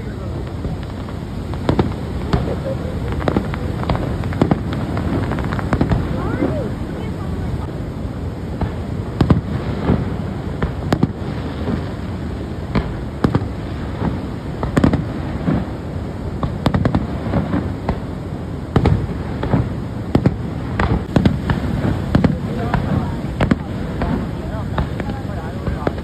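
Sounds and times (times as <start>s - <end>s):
fireworks bursting bangs: 0.0s - 26.0s.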